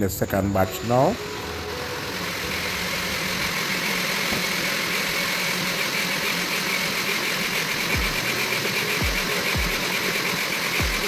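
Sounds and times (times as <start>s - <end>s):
electric blender running: 0.5s - 11.0s.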